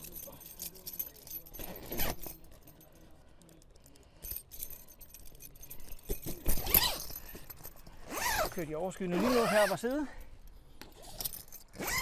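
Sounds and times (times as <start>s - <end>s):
metal zip pullers clinking: 0.0s - 12.0s.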